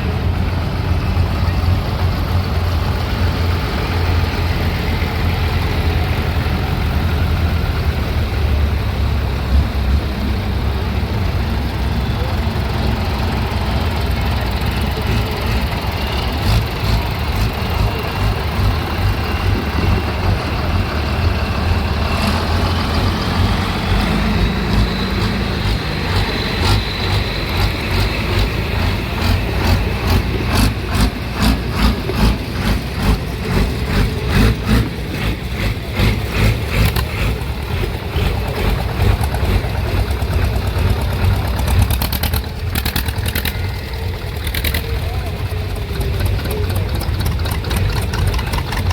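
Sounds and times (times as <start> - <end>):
old engines running: 0.0 - 48.9
slow engine exhaust beat: 0.0 - 48.9.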